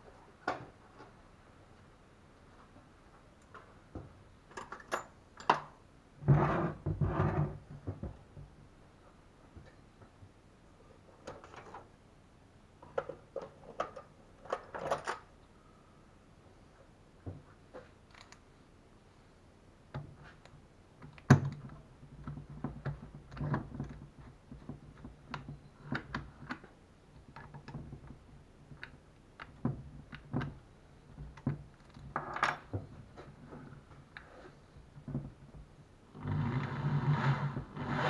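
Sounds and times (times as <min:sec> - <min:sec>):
faint low steady hum: 0:00.0 - 0:38.0.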